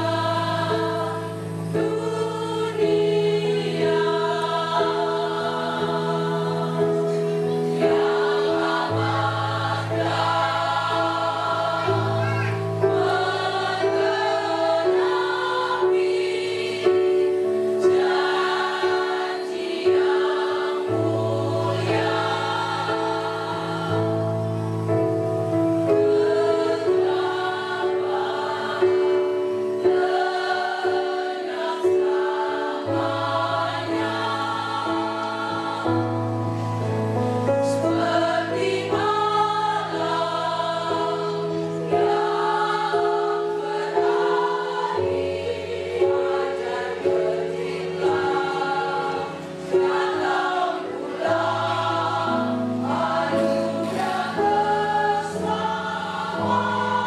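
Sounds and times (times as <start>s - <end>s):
women's choir singing: 0.0s - 57.0s.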